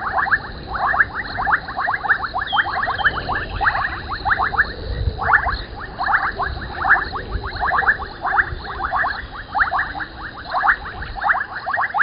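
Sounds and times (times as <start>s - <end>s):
frogs calling: 0.0s - 12.0s
high insect drone: 0.0s - 12.0s.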